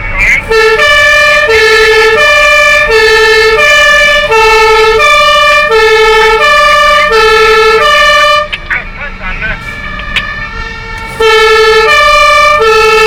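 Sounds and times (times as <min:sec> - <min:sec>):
road and engine rumble: 0:00.0 - 0:13.0
two-tone fire engine siren: 0:00.0 - 0:13.0.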